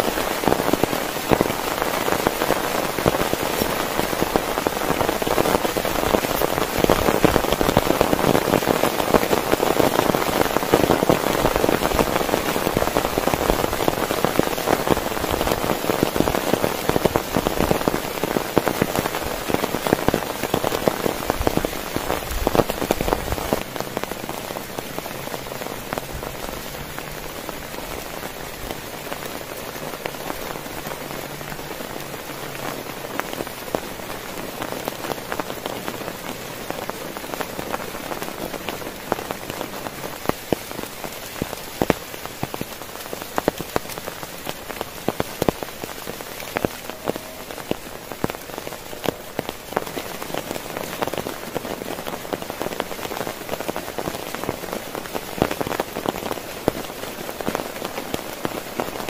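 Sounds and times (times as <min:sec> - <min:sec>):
heavy rain on a tent: 0:00.0 - 0:59.0.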